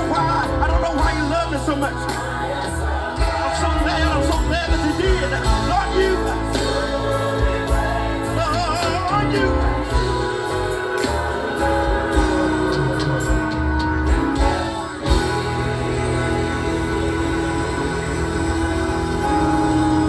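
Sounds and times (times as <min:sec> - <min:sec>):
band with steady bass: 0:00.0 - 0:20.0
gospel singing voices: 0:00.0 - 0:20.0.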